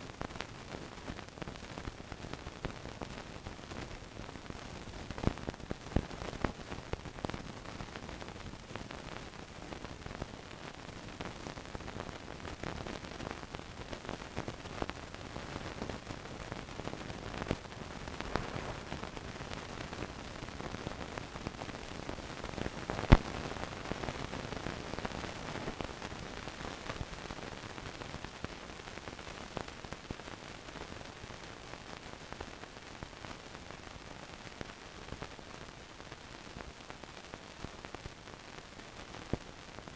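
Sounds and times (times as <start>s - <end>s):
film soundtrack hiss and crackle: 0.0s - 39.9s.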